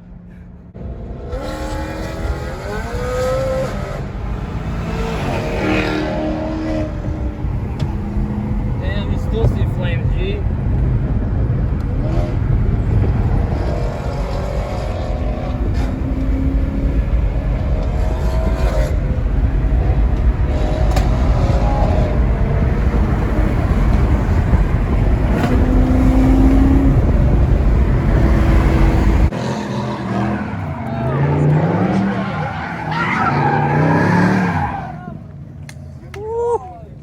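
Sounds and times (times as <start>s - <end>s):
car engines rumbling: 0.0s - 37.0s.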